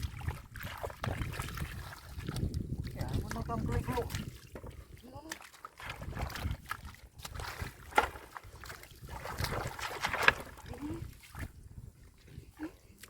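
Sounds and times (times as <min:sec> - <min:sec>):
hands splashing in muddy water: 0:00.0 - 0:11.6.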